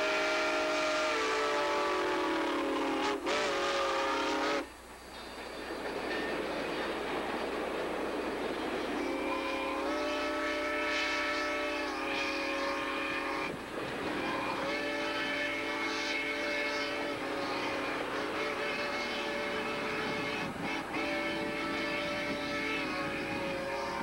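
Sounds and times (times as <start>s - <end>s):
steam locomotive whistle blasts: 0.0s - 4.8s, 8.8s - 24.0s
train wheels rumbling on rail: 0.0s - 24.0s.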